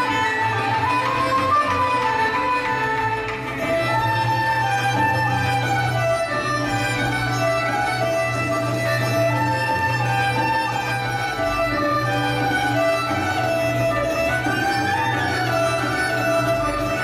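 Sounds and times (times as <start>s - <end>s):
fiddle melody: 0.0s - 17.0s.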